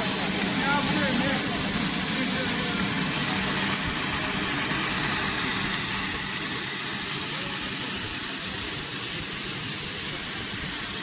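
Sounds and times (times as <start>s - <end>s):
faint high whine: 0.0s - 11.0s
machinery hum and hiss: 0.0s - 11.0s.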